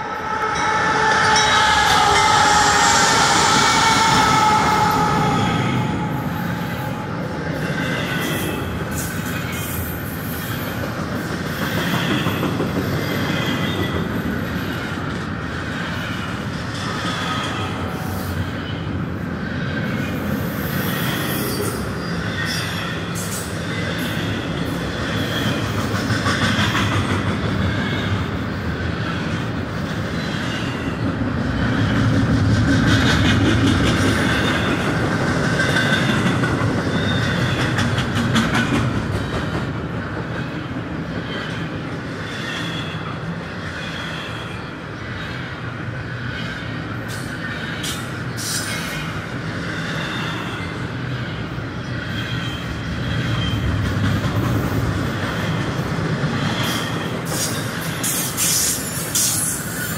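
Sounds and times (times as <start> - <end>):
diesel locomotive passing: 0.0 - 59.9
train wheel rumble: 0.0 - 59.9.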